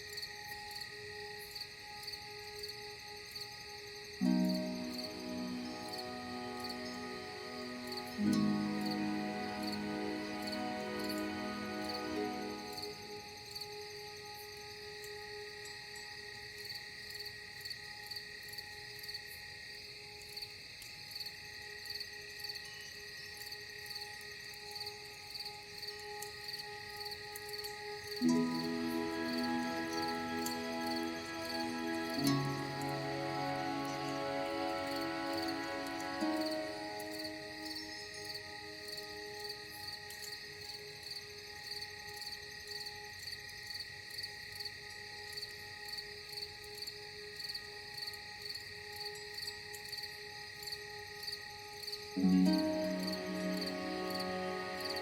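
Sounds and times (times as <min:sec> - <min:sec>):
ambient music drone: 0:00.0 - 0:55.0
crickets chirping: 0:00.0 - 0:55.0.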